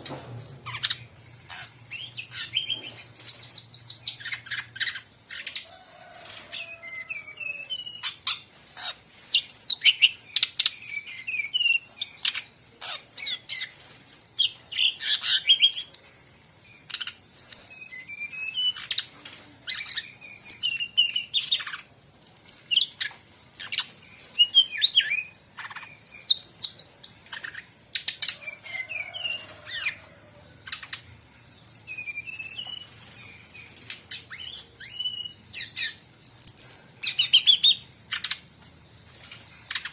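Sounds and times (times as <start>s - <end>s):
bird singing rapid chirps: 0.0s - 39.9s
other birds calling: 0.0s - 39.9s
steady high-pitched hiss: 0.0s - 39.9s.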